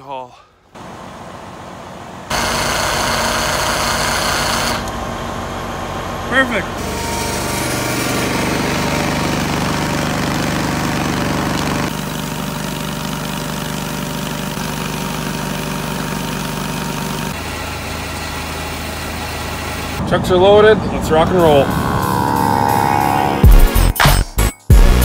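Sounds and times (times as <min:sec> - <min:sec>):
engine running steadily: 0:00.8 - 0:22.1.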